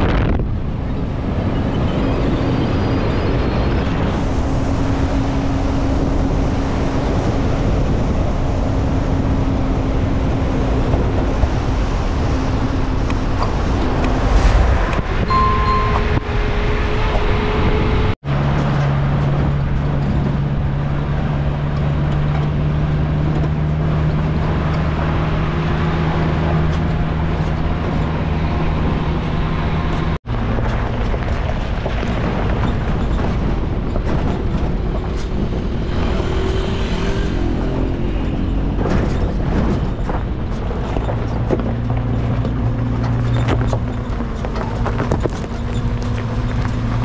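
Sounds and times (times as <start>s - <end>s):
vehicle engine hum: 0.0s - 47.0s.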